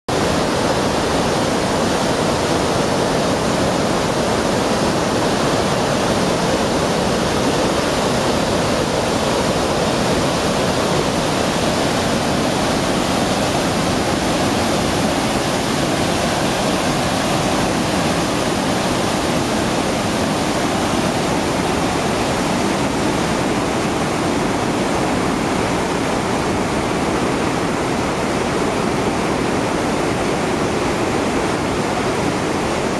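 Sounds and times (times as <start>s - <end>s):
waterfall roaring: 0.1s - 32.9s.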